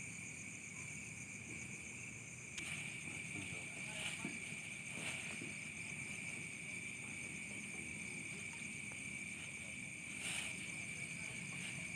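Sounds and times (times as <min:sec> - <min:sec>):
insects chirring: 0:00.0 - 0:11.9.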